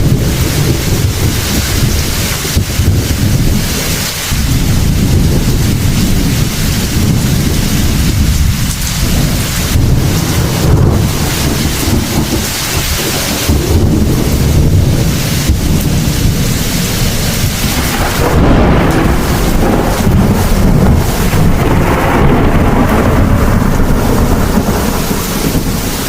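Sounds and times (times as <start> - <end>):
heavy rain: 0.0 - 26.0
rolling thunder: 0.0 - 26.0.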